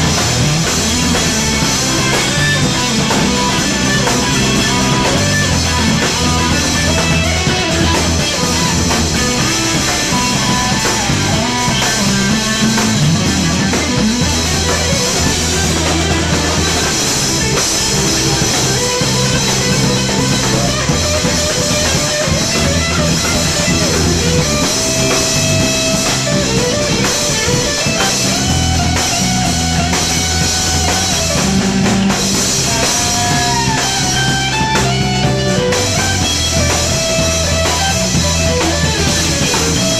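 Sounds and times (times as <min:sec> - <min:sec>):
drum kit with cymbals: 0:00.0 - 0:39.9
electric bass: 0:00.0 - 0:39.9
electric guitar: 0:00.0 - 0:39.9.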